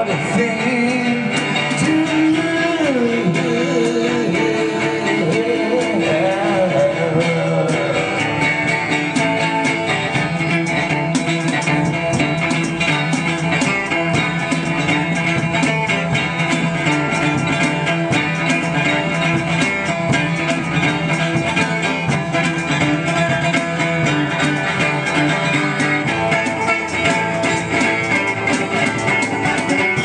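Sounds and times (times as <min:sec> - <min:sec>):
acoustic guitar strumming: 0:00.0 - 0:30.0
hand percussion: 0:00.0 - 0:30.0.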